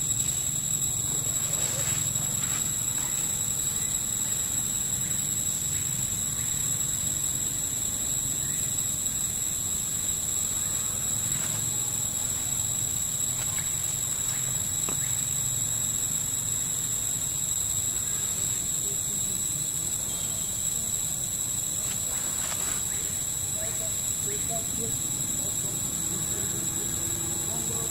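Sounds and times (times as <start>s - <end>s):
high-pitched insect drone: 0.0s - 27.9s.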